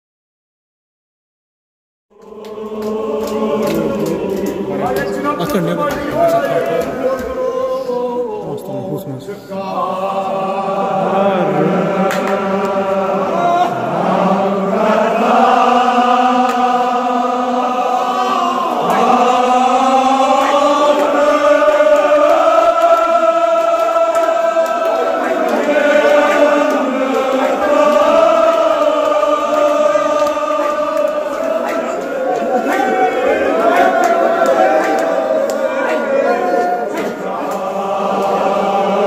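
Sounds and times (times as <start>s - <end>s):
men chanting: 2.2s - 39.0s.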